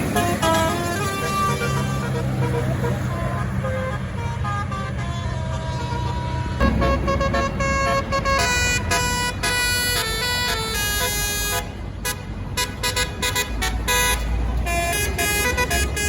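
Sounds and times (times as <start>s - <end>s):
bus engine running: 0.0s - 16.0s
musical bus horn: 0.0s - 16.0s.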